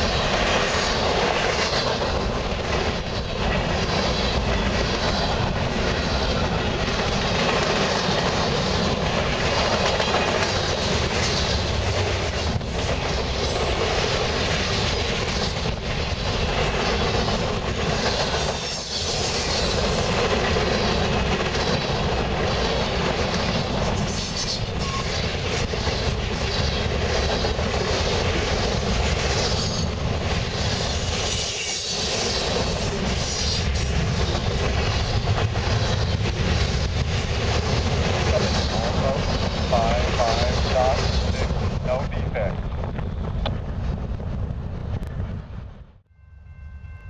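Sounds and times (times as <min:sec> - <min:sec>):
train wheels clattering on rails: 0:00.0 - 0:44.2.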